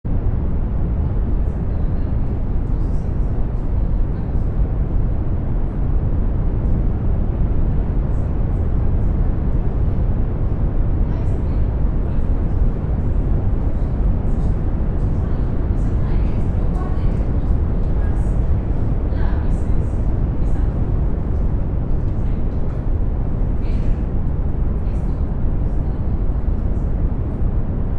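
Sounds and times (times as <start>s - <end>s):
brown noise: 0.0s - 27.9s.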